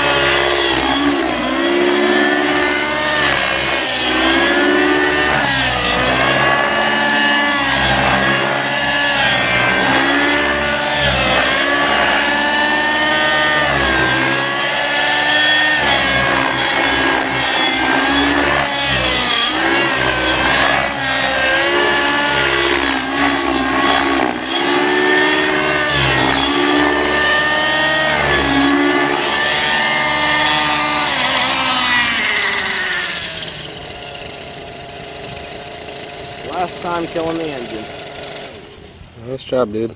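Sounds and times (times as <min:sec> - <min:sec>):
rc helicopter engine whining: 0:00.0 - 0:39.4.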